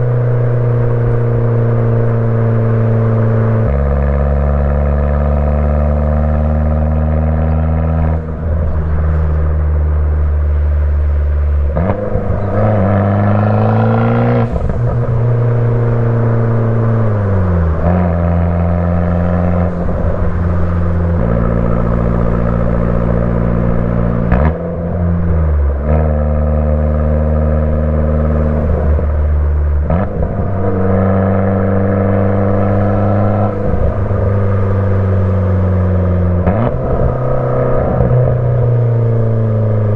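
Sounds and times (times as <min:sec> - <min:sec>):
car exhaust drone while driving: 0:00.0 - 0:39.9.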